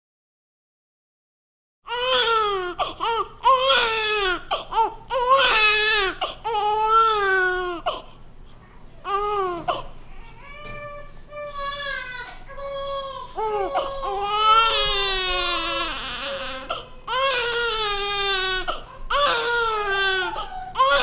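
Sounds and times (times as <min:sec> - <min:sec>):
newborn baby crying: 0:01.9 - 0:08.2, 0:09.0 - 0:21.0.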